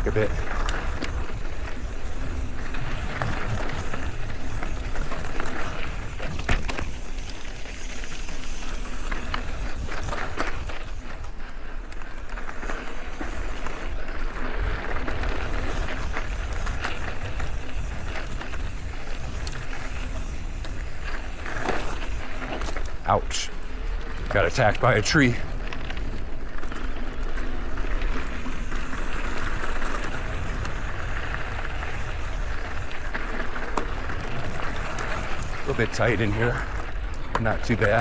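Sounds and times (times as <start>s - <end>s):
bike rattling over rocks: 0.0s - 38.0s
tyre and wind noise: 0.0s - 38.0s.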